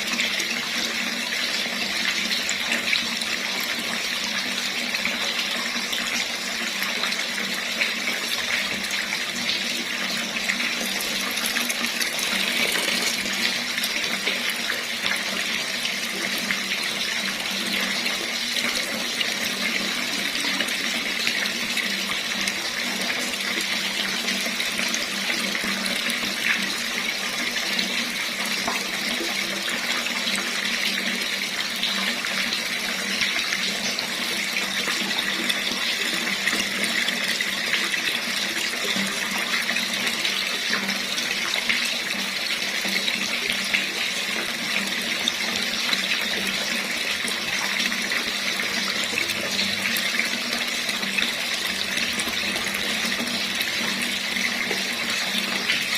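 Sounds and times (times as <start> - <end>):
water running from a tap: 0.0 - 55.9.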